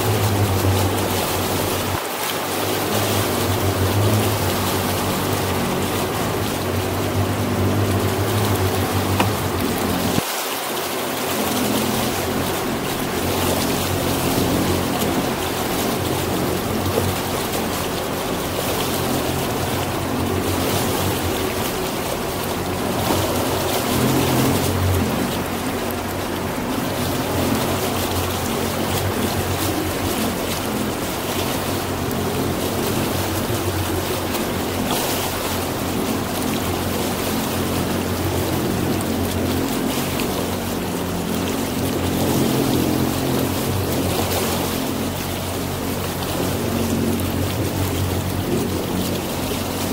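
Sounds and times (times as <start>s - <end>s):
motorboat engine hum: 0.0s - 49.9s
water rushing along hull: 0.0s - 49.9s.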